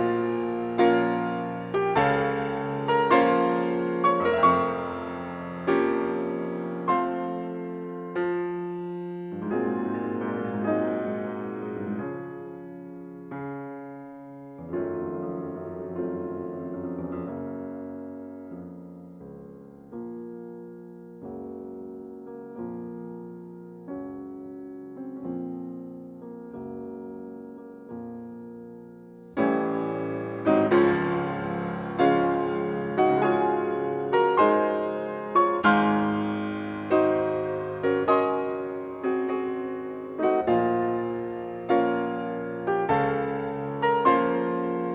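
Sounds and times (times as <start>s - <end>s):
slow solo piano chords: 0.0s - 44.9s.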